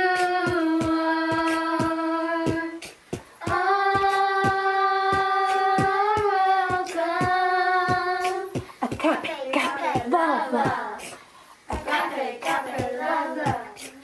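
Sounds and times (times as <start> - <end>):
children's choir singing: 0.0 - 2.8, 3.4 - 14.0
steady beat of sharp strokes: 0.0 - 14.0.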